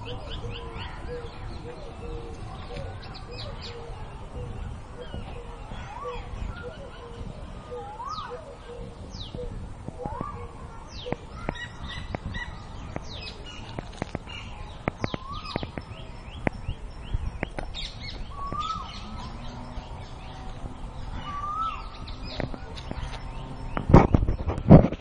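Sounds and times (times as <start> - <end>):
lower rising and falling bird call: 0.0 - 13.7, 14.3 - 24.4.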